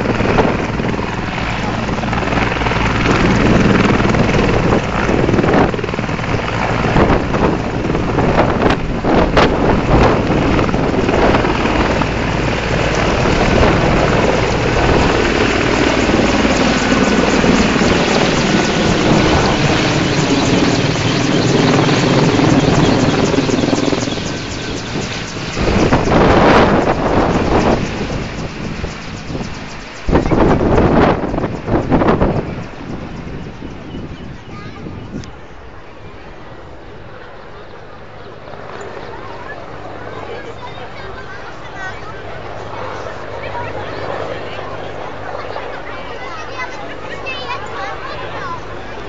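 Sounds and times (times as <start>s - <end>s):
helicopter engines and rotor: 0.0s - 49.0s.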